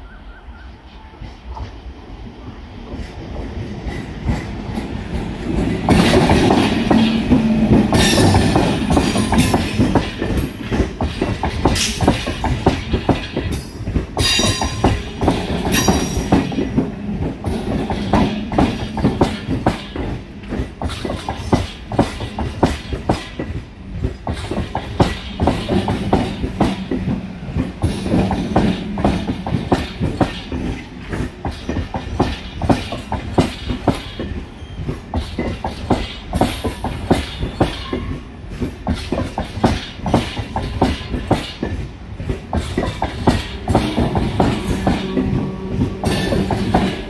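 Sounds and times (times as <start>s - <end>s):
train low hum: 0.0s - 47.0s
wheels clattering over rail joints: 3.9s - 47.0s.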